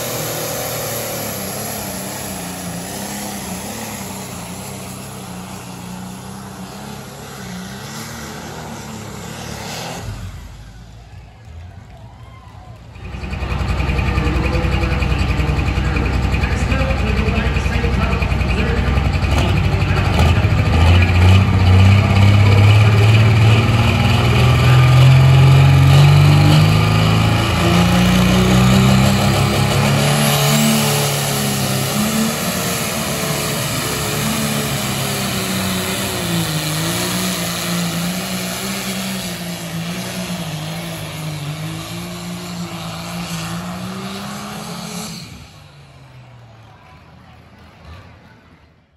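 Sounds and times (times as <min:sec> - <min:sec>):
tractor diesel engine at full power: 0:00.0 - 0:47.0.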